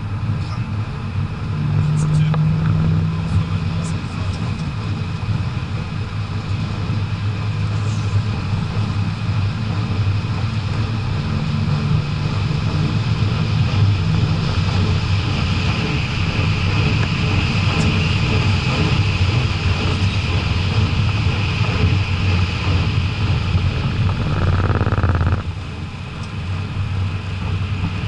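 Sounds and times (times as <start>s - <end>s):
diesel car engine running: 0.0s - 28.0s.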